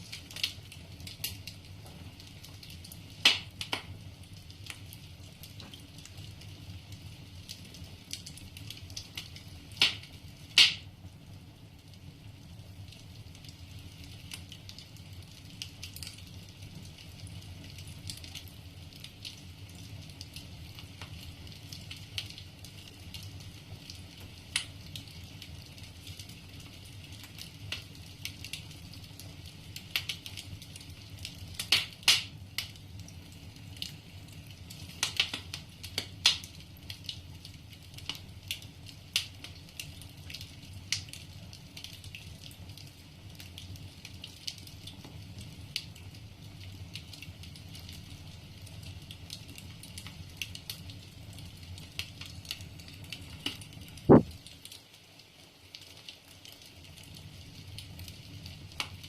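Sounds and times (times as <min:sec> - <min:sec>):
fire crackles and pops: 0:00.0 - 0:59.0
flames rumbling: 0:00.0 - 0:59.0.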